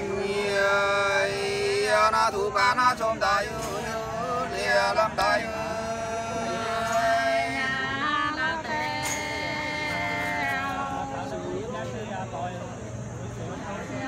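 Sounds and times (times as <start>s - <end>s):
unaccompanied folk singing: 0.0s - 12.6s.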